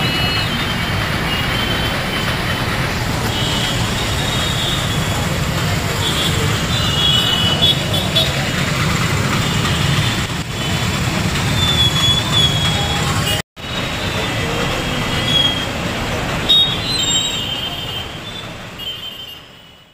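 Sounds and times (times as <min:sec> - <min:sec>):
traffic rumble: 0:00.0 - 0:19.2.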